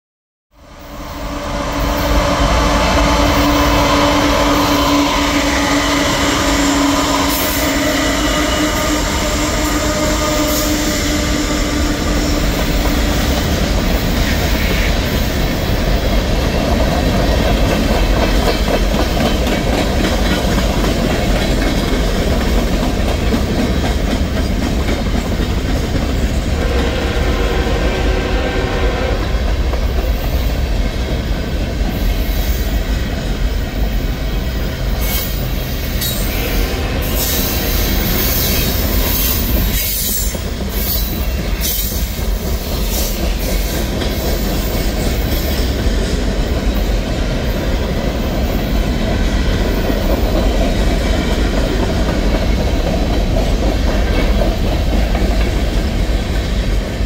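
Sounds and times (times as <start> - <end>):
train wheels on rails: 0.6 - 57.0.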